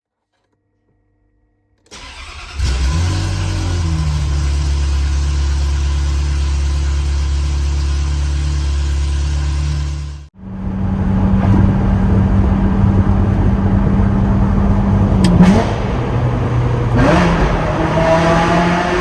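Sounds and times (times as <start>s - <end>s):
car engine starting and idling: 1.8s - 19.0s.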